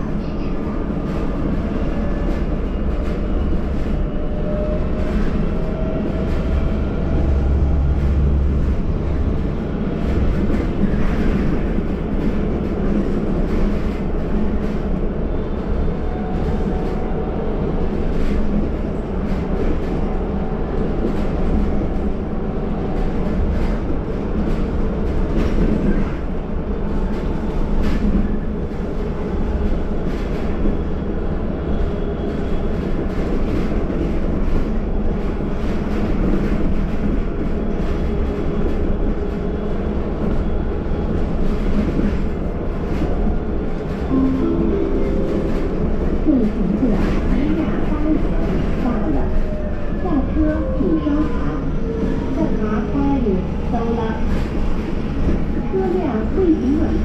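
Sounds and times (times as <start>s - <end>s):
bus drivetrain and road rumble: 0.0s - 57.0s.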